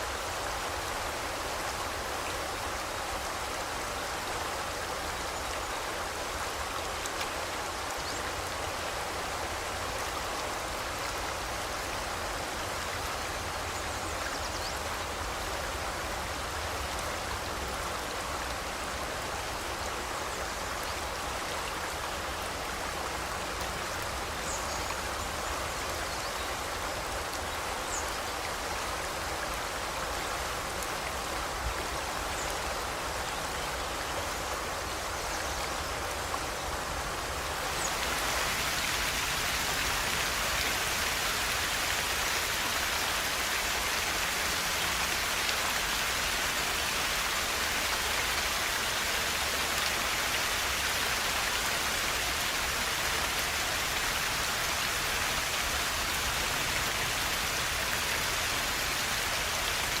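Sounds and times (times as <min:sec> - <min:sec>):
river rushing: 0:00.0 - 1:00.0.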